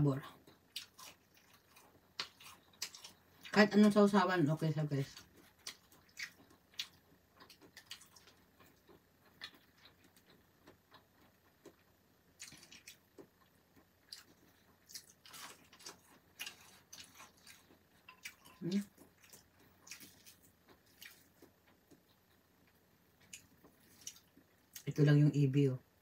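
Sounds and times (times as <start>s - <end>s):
person chewing crispy fried food: 0.2s - 3.6s, 5.0s - 24.9s.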